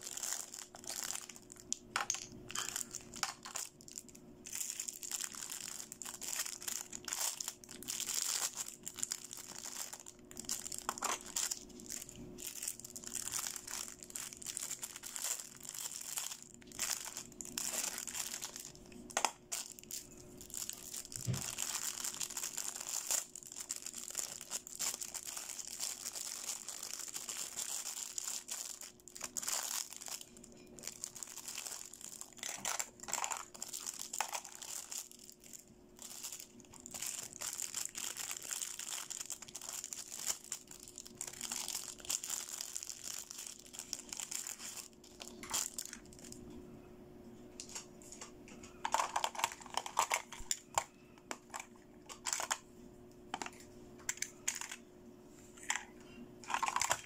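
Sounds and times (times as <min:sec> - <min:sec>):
plastic packaging crinkling: 0:00.0 - 0:46.5, 0:47.6 - 0:52.6, 0:53.3 - 0:54.8, 0:55.5 - 0:57.0.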